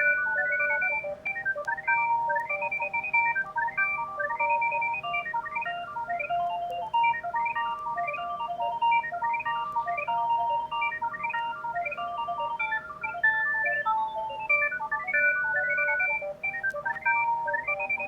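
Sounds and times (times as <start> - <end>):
mobile phone ringtone melody: 0.0 - 18.0.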